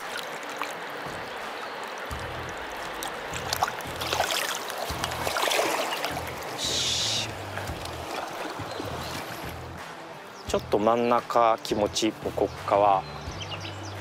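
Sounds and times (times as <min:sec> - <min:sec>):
water splashes and clicks: 0:00.0 - 0:13.4
rushing river water: 0:00.0 - 0:14.0.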